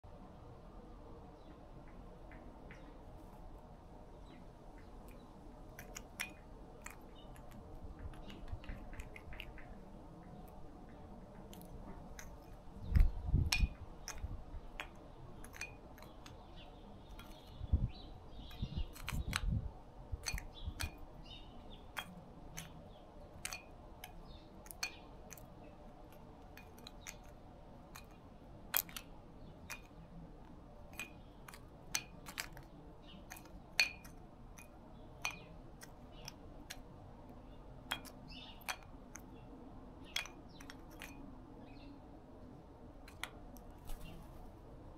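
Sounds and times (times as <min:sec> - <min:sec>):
bird beak pecking peanut shells: 0:04.3 - 0:17.6, 0:18.4 - 0:41.8, 0:43.0 - 0:44.5.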